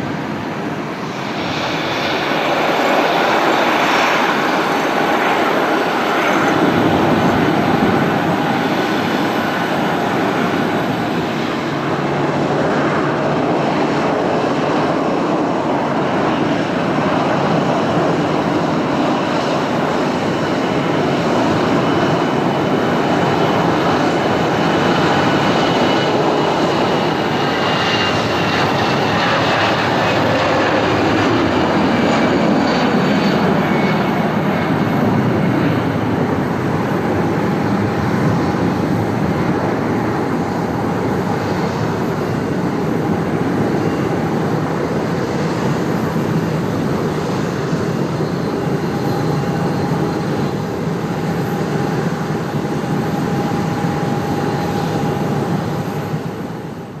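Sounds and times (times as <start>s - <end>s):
jet engines roaring at takeoff: 0.0s - 57.0s.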